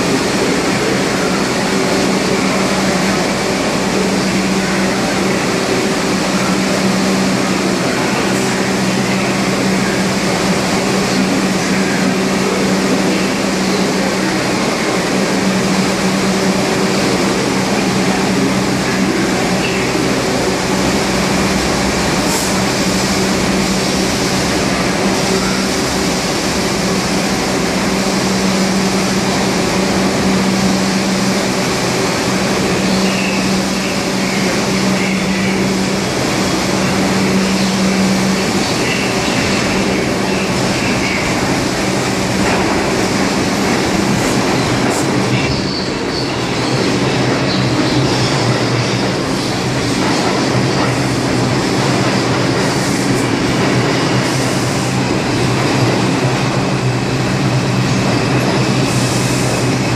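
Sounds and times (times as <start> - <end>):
subway train humming at platform: 0.0 - 59.9
train wheels rumbling and squealing: 0.0 - 59.9.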